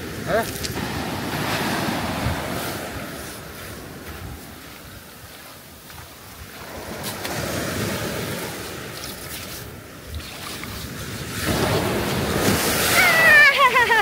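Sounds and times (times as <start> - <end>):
surf washing up beach: 0.0 - 14.0
wind buffeting microphone: 0.0 - 14.0.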